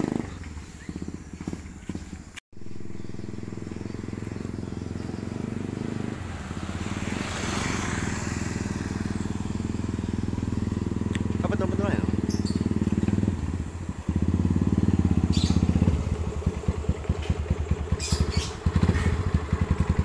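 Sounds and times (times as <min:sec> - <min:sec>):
motorcycle engine approaching: 0:00.0 - 0:20.0.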